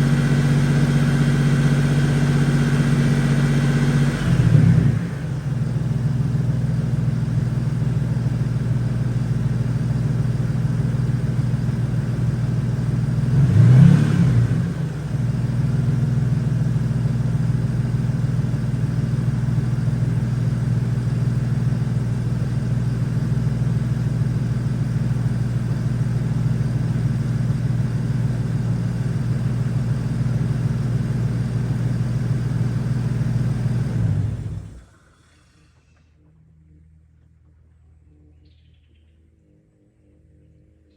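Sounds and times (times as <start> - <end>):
truck engine idling: 0.0 - 13.4, 14.6 - 38.7.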